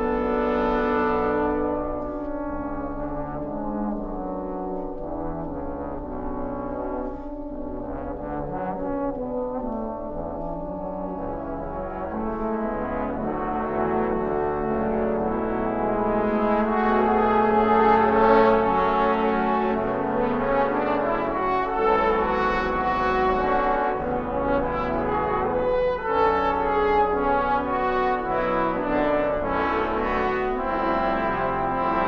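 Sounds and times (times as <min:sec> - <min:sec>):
trombone choir playing held chords: 0:00.0 - 0:32.0.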